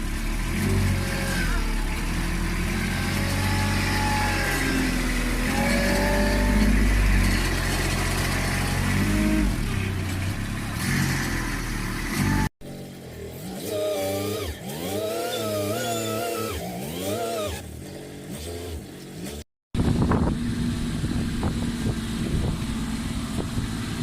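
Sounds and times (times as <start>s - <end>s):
backhoe engine running under load: 0.0s - 16.2s, 19.8s - 24.0s.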